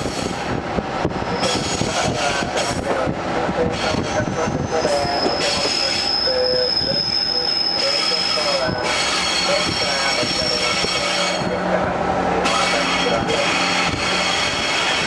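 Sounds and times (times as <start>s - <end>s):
train wheels squealing on rails: 0.0s - 0.4s, 1.2s - 2.8s, 3.7s - 11.7s, 12.4s - 15.0s
diesel railcar running noise: 0.0s - 15.0s.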